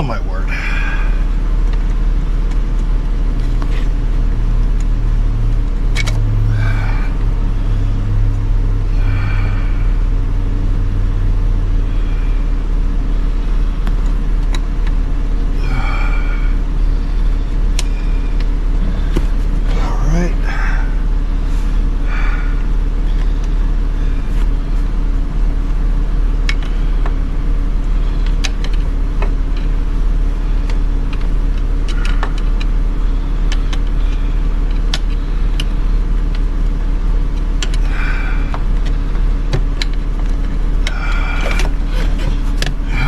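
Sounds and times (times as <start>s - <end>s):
steady low drone: 0.0s - 43.0s.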